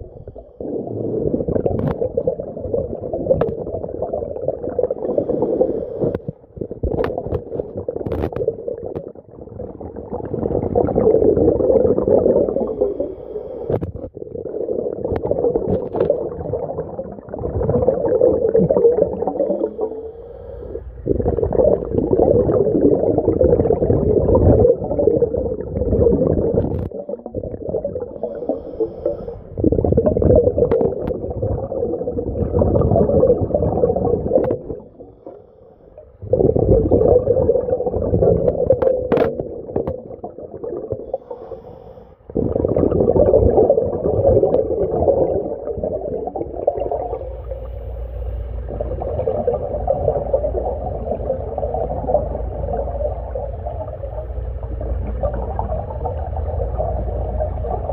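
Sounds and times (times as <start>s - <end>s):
underwater bubbles gurgling: 0.0s - 57.9s.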